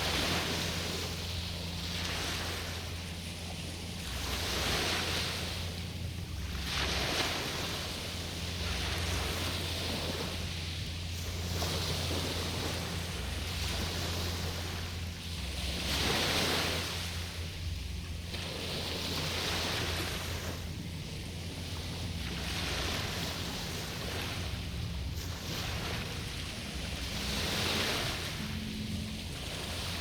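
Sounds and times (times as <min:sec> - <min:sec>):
small waves washing ashore: 0:00.0 - 0:30.0
steady low rumble: 0:00.0 - 0:30.0.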